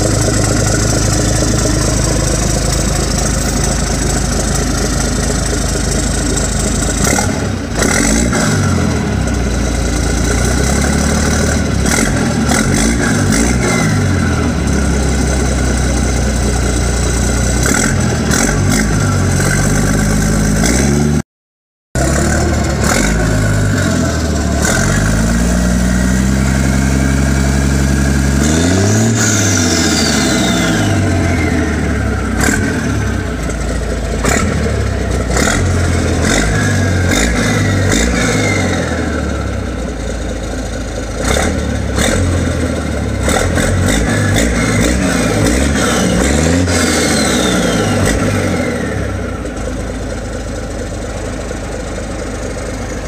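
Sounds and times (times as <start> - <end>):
high turbo whine: 0.0 - 21.2, 22.0 - 53.0
truck engine revving: 0.0 - 21.2, 22.0 - 50.0.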